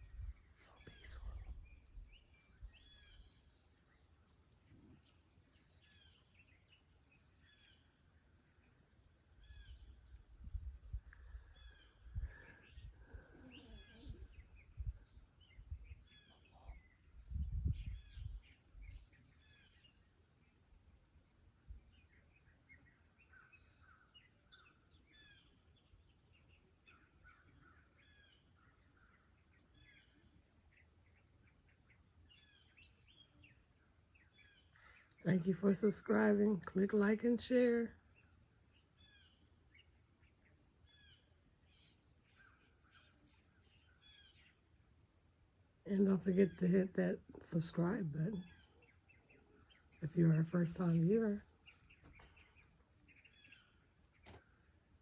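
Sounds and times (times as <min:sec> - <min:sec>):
faint birdsong chirps: 0:00.0 - 0:55.0.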